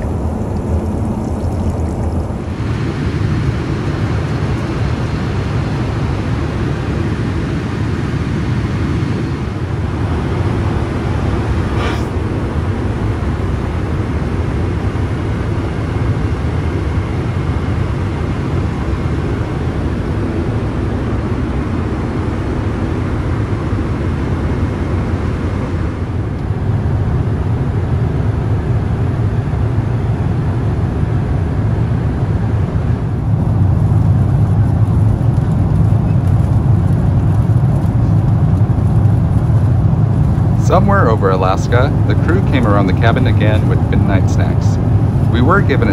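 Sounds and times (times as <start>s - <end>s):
airplane cabin rumble: 0.0s - 45.9s.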